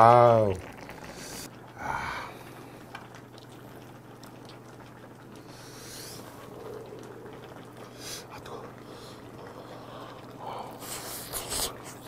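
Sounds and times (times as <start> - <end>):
soft liquid sounds from pot: 0.0 - 12.0
steady low hum: 0.0 - 12.0.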